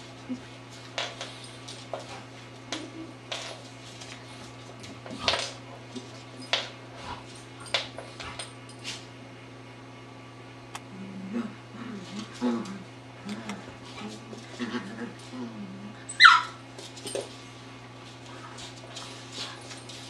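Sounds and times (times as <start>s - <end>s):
dogs scuffling on floor: 0.0s - 9.2s, 12.0s - 20.0s
steady low hum: 0.0s - 20.0s.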